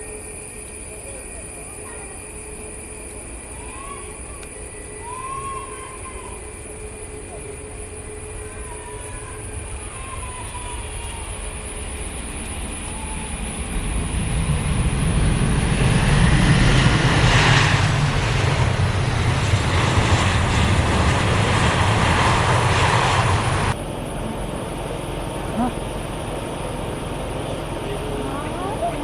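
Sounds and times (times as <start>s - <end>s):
aircraft engine rumble: 0.0s - 29.0s.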